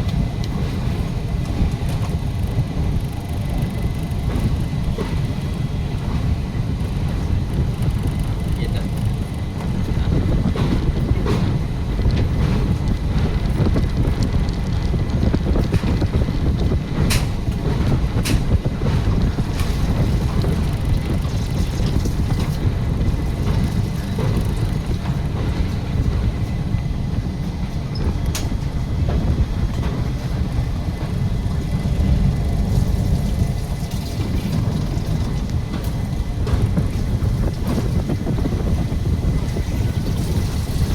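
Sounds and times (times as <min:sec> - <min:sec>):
train rumbling: 0:00.0 - 0:40.9
wind buffeting microphone: 0:00.0 - 0:40.9.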